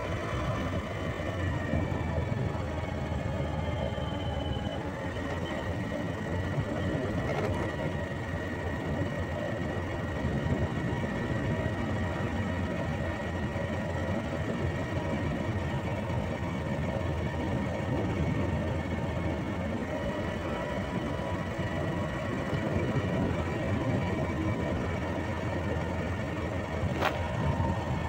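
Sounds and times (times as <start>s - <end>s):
road noise: 0.0s - 28.0s
scooter engine running: 0.0s - 28.0s.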